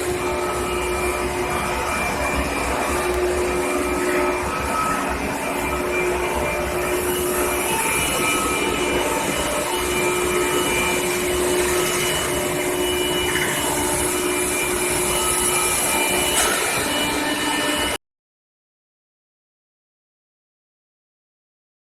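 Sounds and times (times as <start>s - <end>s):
industrial machinery rumble: 0.0s - 18.0s
steady humming tones: 0.0s - 18.0s.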